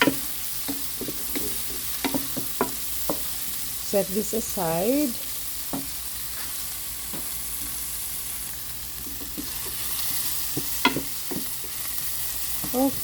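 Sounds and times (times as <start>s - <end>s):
onions sizzling in oil in a pan: 0.0s - 13.0s.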